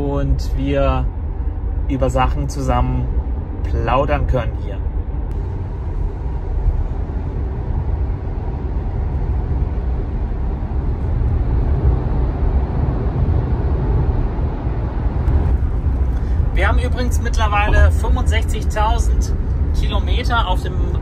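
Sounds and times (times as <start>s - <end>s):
road and tyre rumble: 0.0s - 21.0s.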